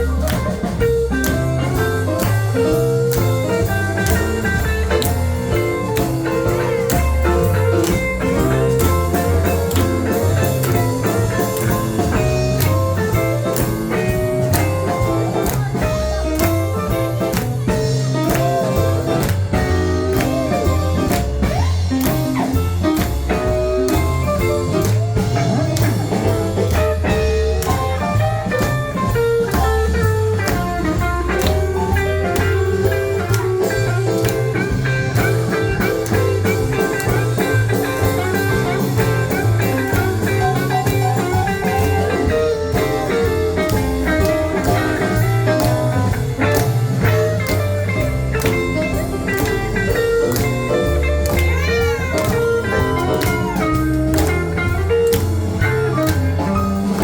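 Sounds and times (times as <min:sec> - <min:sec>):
blues band playing instrumental: 0:00.0 - 0:57.0
guitar bending notes: 0:00.0 - 0:57.0.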